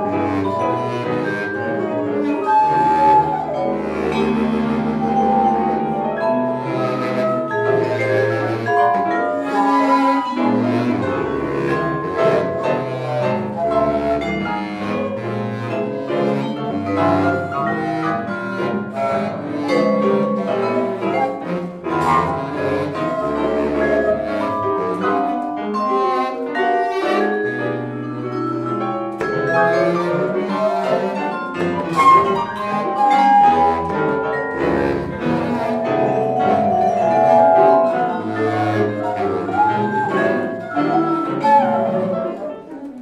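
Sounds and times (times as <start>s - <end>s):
bass flute: 0.0s - 28.8s, 29.4s - 43.0s
baritone saxophone: 0.0s - 43.0s
piano: 0.0s - 43.0s.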